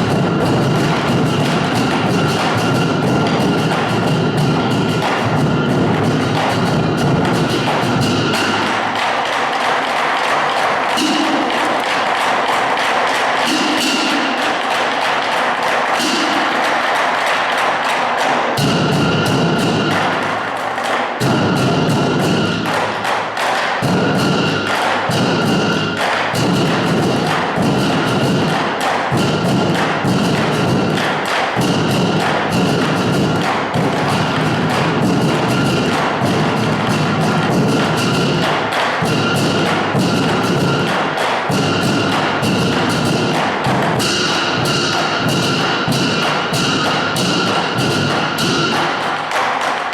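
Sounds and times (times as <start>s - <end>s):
knocking percussion: 0.0s - 49.9s.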